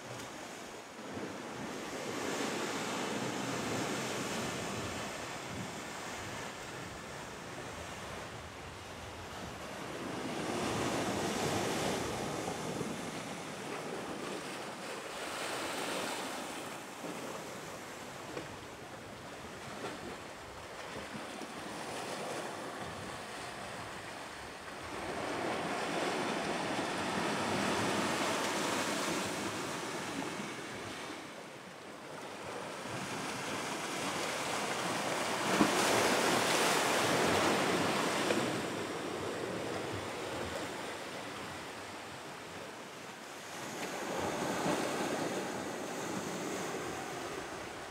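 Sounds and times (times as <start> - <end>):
sea waves washing among boulders: 0.1 - 47.9.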